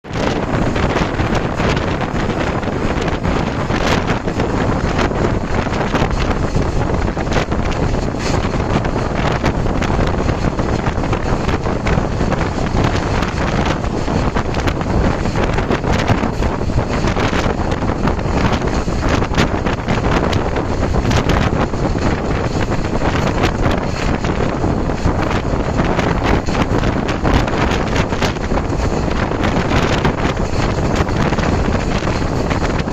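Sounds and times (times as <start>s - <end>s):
train rumbling on track: 0.0s - 32.9s
wind buffeting microphone: 0.0s - 32.9s.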